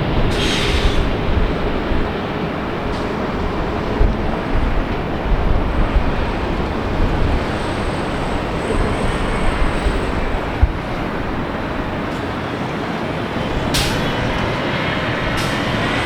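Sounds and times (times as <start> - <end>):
jet engine rumble: 0.0 - 16.0
wind buffeting the microphone: 0.0 - 16.0.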